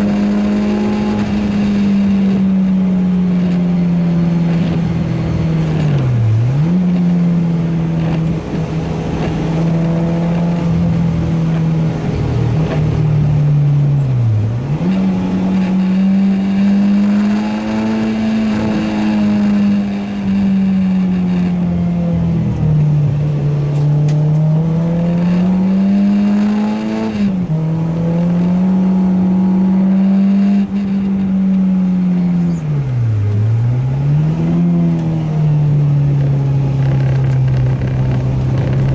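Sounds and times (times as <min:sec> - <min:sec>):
car engine at high revs: 0:00.0 - 0:38.9.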